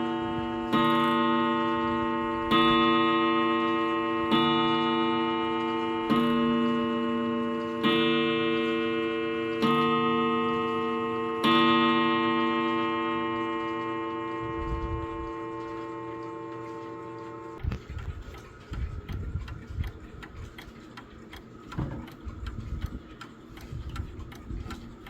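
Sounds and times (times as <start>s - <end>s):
mantle clock striking: 0.0s - 25.0s.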